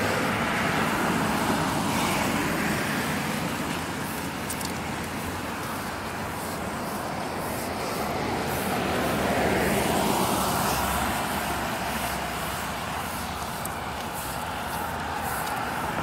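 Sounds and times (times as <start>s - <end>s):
background traffic: 0.0s - 16.0s.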